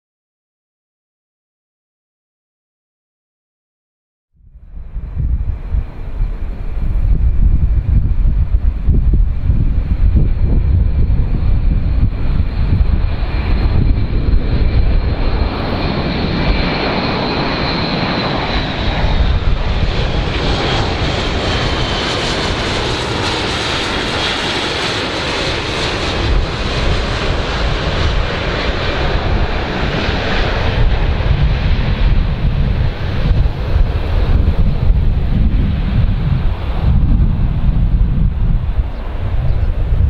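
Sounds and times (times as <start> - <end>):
propeller aircraft droning overhead: 4.4 - 40.0
wind rumbling on microphone: 4.4 - 40.0.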